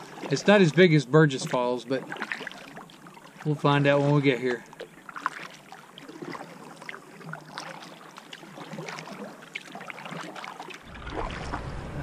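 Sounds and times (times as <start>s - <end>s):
kayak paddle splashing: 0.0s - 12.0s.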